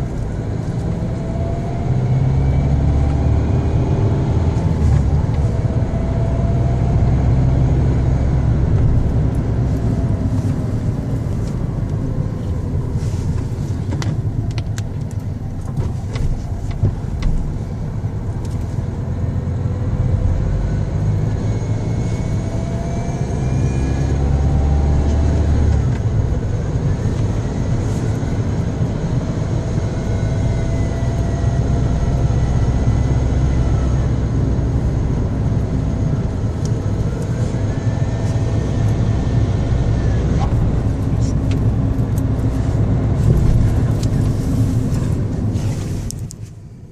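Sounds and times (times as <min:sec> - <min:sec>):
car engine running: 0:00.0 - 0:46.9
faint engine whine: 0:00.0 - 0:46.9.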